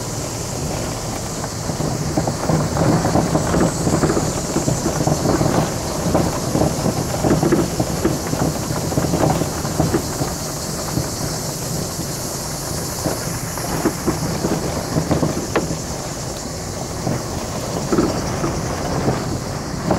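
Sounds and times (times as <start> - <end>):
car engine hum: 0.0 - 19.9
tyres crunching on gravel: 0.0 - 19.9
knocks and rattles: 0.6 - 12.0, 12.9 - 19.9.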